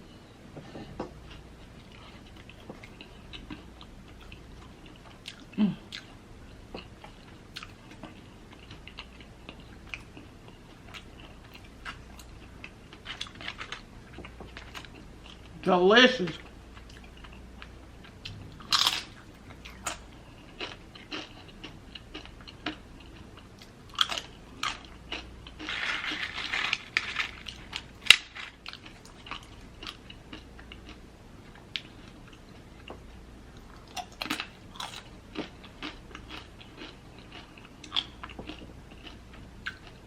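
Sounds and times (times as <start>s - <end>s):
person chewing and crunching: 0.7s - 15.6s, 16.4s - 40.0s.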